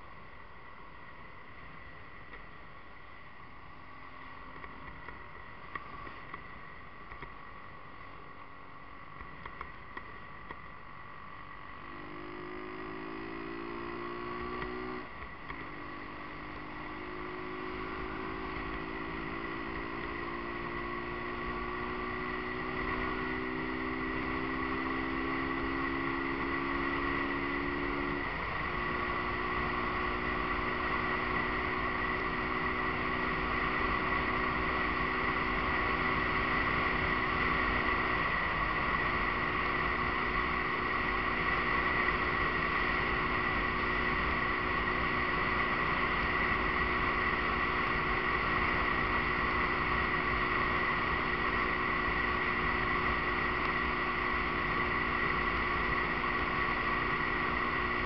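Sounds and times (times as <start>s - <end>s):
motorcycle engine accelerating: 8.3s - 58.0s.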